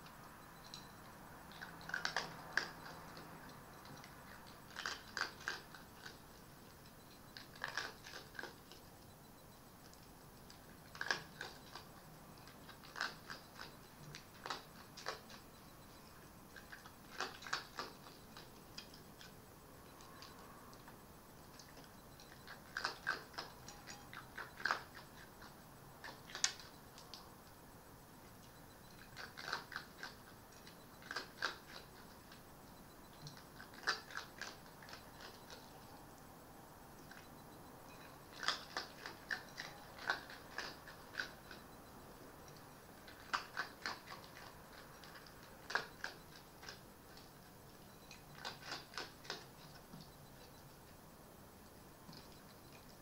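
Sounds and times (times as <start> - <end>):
fox crunching food: 0.0 - 9.1, 9.8 - 27.6, 28.2 - 36.3, 36.9 - 37.3, 37.9 - 53.0.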